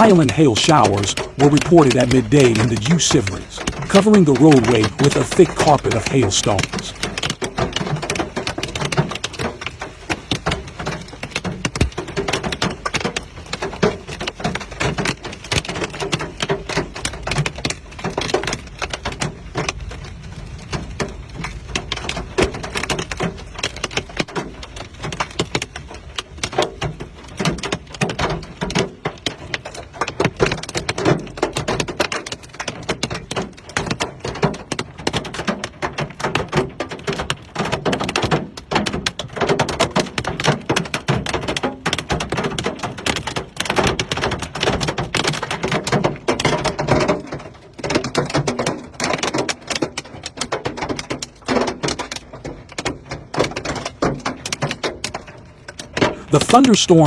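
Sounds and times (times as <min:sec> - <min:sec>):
hailstones hammering on hard surfaces: 0:00.0 - 0:57.0.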